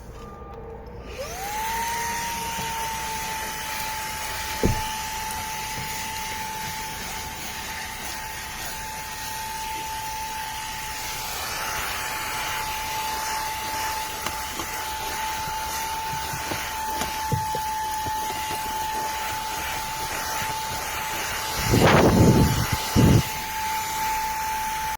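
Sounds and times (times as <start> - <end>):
handheld vacuum running: 1.0 - 24.9.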